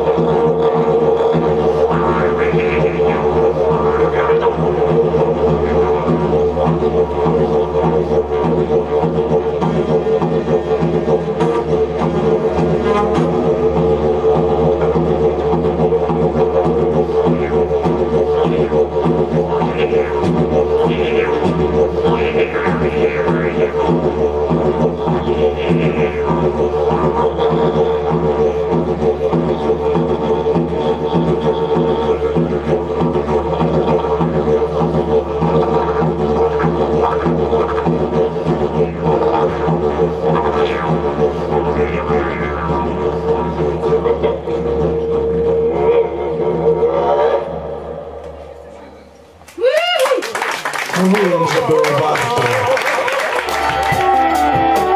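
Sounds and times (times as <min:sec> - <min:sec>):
didgeridoo drone: 0:00.0 - 0:49.4, 0:50.9 - 0:54.9.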